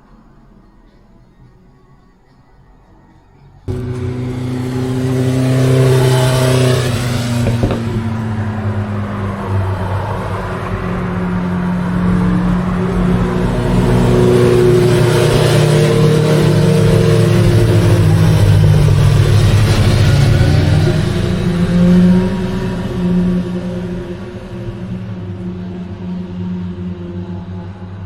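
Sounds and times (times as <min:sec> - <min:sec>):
motorcycle engine and exhaust: 0:03.6 - 0:28.0.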